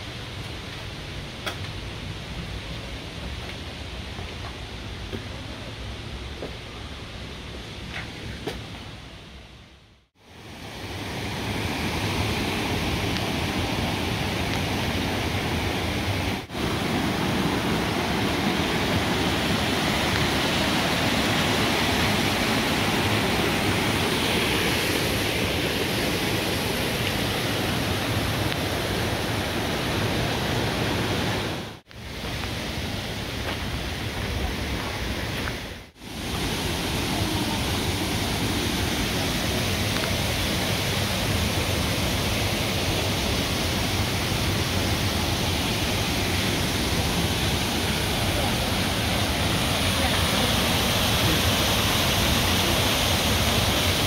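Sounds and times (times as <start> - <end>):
water rushing over cascades: 10.2 - 54.0.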